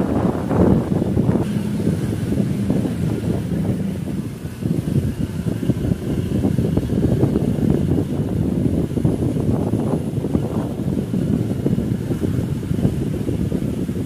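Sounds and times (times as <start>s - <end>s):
vehicle engine running low: 0.0s - 14.0s
wind buffeting microphone: 0.0s - 14.0s.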